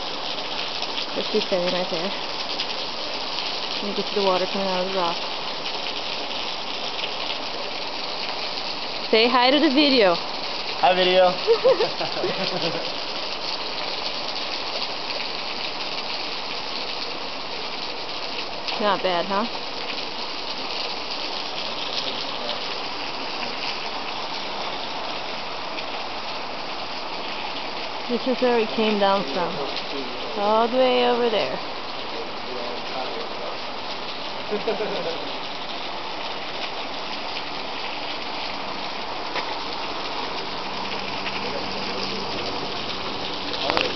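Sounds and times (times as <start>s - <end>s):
water splashing down rocks: 0.0s - 43.9s.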